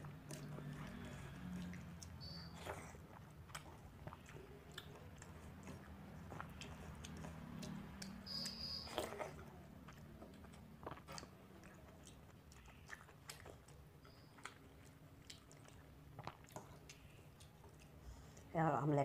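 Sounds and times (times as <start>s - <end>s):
fingers on wet rice clicks: 0.0s - 18.0s
faint chewing of soft rice: 0.0s - 18.6s.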